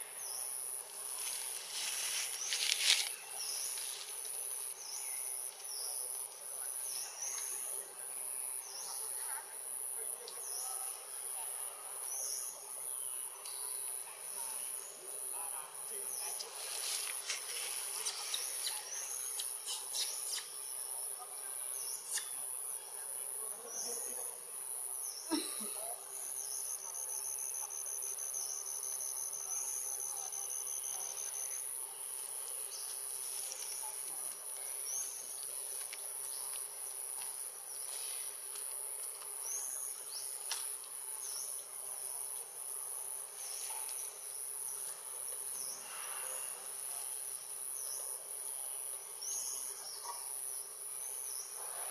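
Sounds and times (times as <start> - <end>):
lower insect tone: 0.0 - 51.9.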